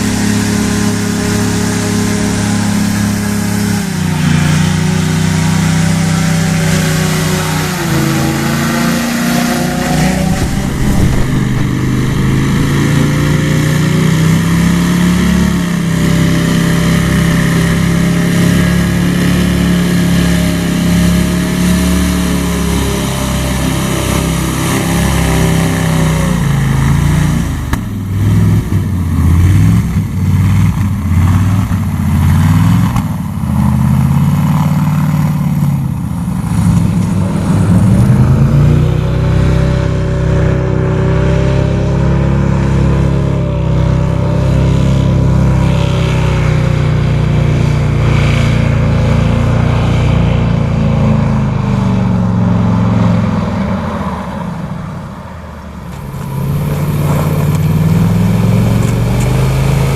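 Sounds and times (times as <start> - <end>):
airboat engine and propeller: 0.0 - 59.9.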